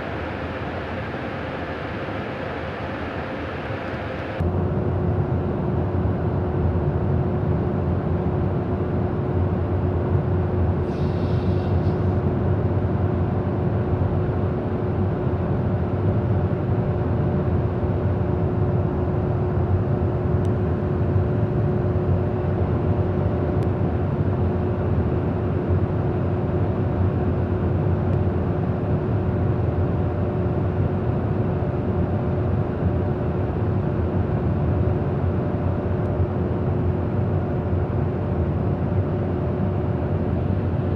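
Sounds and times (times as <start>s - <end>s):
aircraft engine and airflow drone: 0.0s - 40.9s
constant hum tone: 0.0s - 40.9s.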